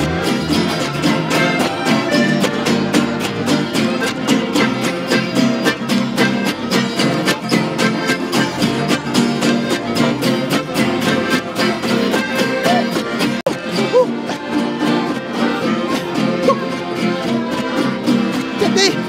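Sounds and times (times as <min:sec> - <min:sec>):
button accordions playing: 0:00.0 - 0:19.0
strummed acoustic guitars: 0:00.0 - 0:19.0.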